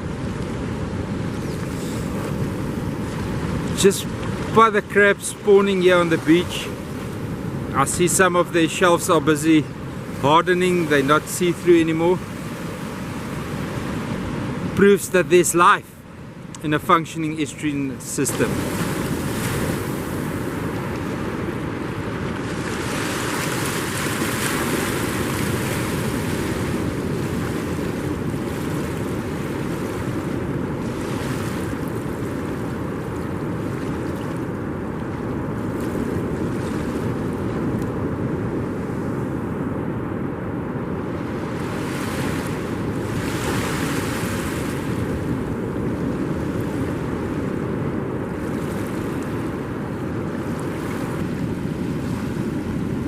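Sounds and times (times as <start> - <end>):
wind on microphone: 0.0 - 16.6, 17.9 - 53.0
ocean surf washing on beach: 0.0 - 53.0.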